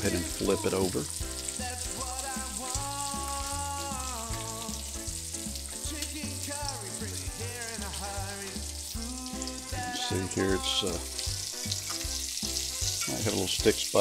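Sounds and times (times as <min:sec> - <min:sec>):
bacon sizzling in a skillet: 0:00.0 - 0:14.0.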